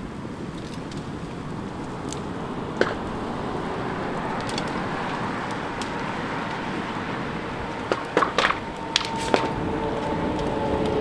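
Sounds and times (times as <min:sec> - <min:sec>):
fire popping and crackling: 0:00.0 - 0:11.0
vehicle fire roaring: 0:00.0 - 0:11.0.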